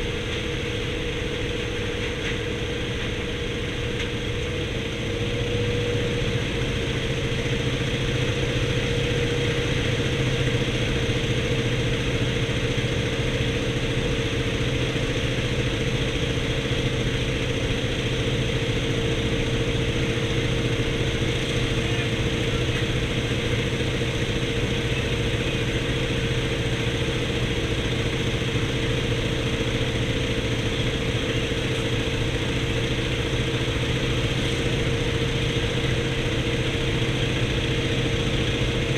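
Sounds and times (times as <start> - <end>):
radial aircraft engine drone: 0.0 - 38.9.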